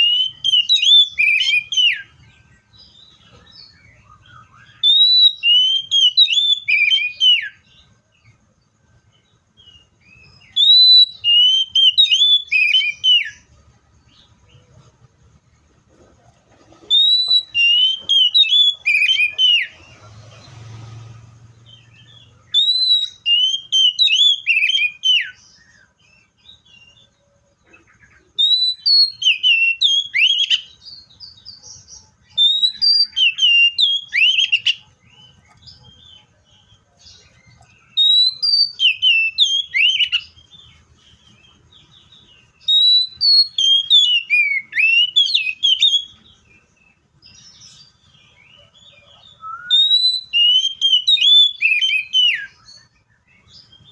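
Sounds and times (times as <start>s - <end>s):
bird singing whistled phrases: 0.0s - 7.9s, 9.6s - 13.5s, 16.9s - 19.8s, 21.7s - 27.1s, 28.3s - 36.4s, 37.1s - 46.7s, 48.5s - 53.9s.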